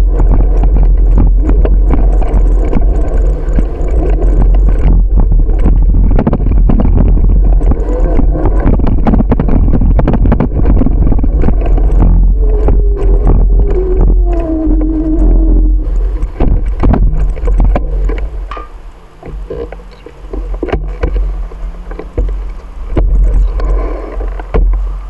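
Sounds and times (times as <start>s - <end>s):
bicycle rattles and knocks: 0.0s - 15.0s, 16.0s - 23.6s, 24.2s - 25.0s
road rumble: 0.0s - 25.0s
wind noise: 0.0s - 25.0s.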